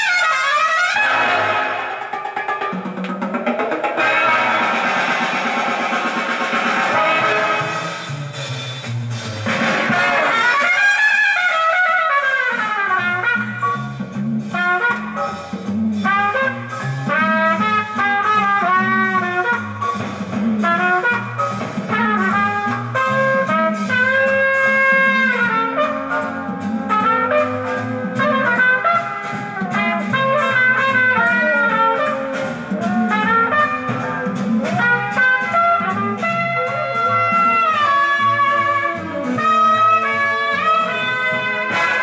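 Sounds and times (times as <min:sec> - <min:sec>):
big band jazz with horns: 0:00.0 - 0:42.0.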